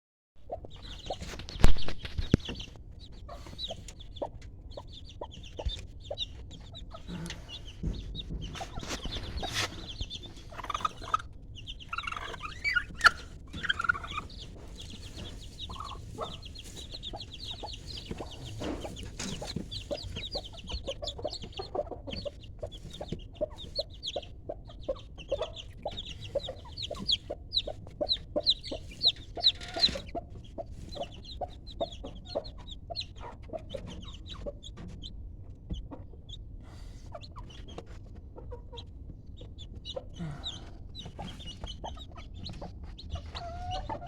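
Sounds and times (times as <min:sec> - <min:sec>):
chickens clucking and calling: 0:00.4 - 0:44.0.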